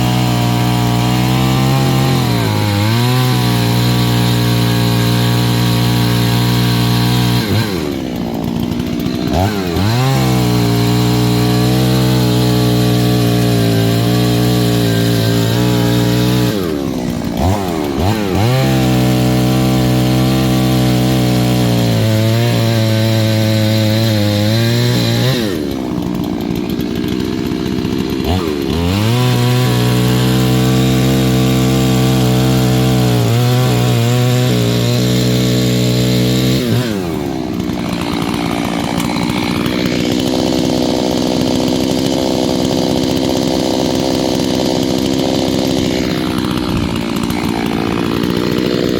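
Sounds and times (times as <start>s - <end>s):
chainsaw engine revving: 0.0s - 48.9s.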